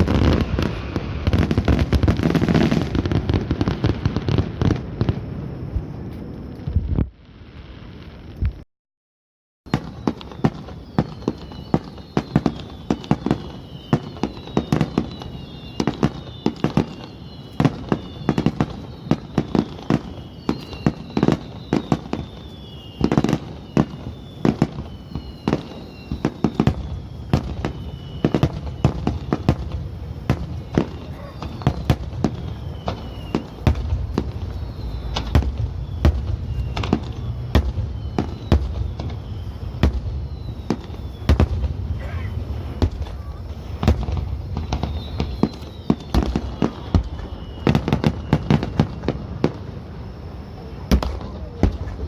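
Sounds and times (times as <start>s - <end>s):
fireworks bursts banging: 0.0s - 8.6s, 9.7s - 52.0s
fireworks falling whistles: 0.0s - 8.6s, 9.6s - 52.0s.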